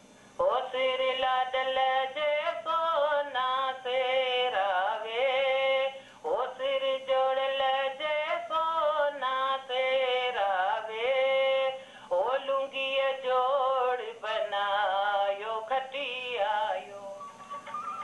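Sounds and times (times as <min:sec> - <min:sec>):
woman singing unaccompanied: 0:00.4 - 0:17.4.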